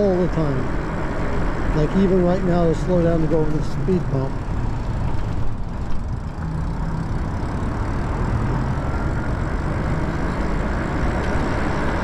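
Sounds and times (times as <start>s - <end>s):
tyres rumbling on pavement: 0.0s - 12.0s
wind: 0.0s - 12.0s.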